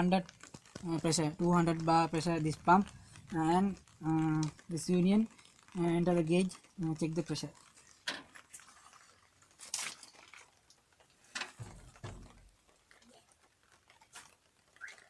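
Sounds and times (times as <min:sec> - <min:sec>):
quiet rustling: 0:00.0 - 0:15.0.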